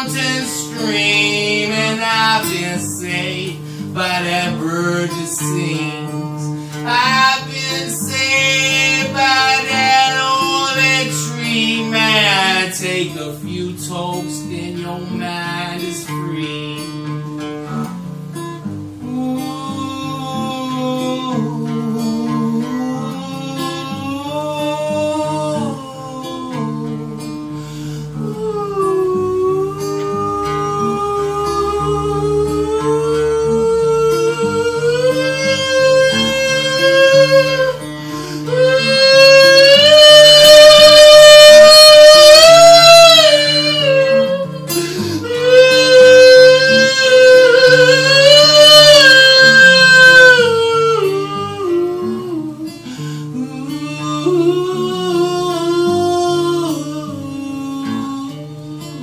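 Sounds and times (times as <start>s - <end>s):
man singing: 0.0s - 17.9s, 19.0s - 59.0s
acoustic guitar strumming: 0.0s - 59.0s.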